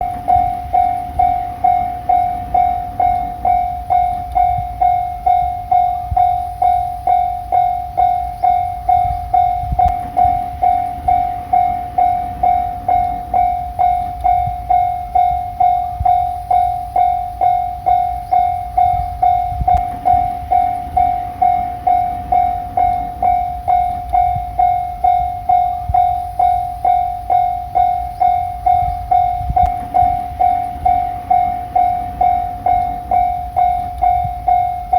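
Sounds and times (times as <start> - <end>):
level-crossing alarm dinging: 0.0 - 34.9
train rumbling and wheel clatter: 0.0 - 34.9.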